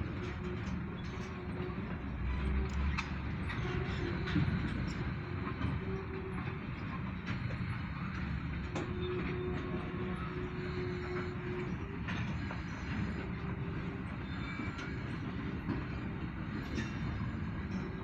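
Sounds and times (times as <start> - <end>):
freight train rumbling past: 0.0 - 18.0
wheels clicking on rails: 0.0 - 18.0.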